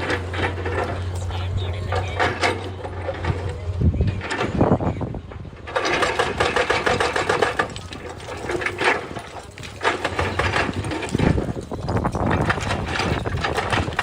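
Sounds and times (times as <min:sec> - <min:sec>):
motor clattering: 0:00.0 - 0:14.0.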